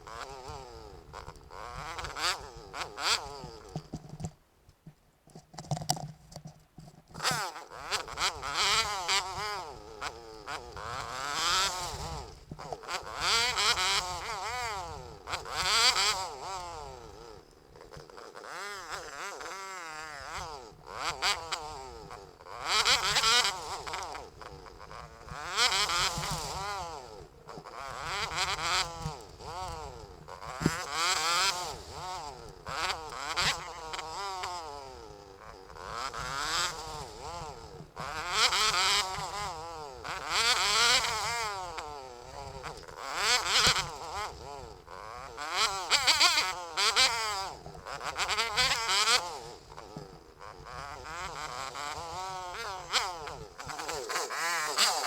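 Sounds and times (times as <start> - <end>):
small motorbike engine revving: 0.0 - 4.4, 5.5 - 55.0.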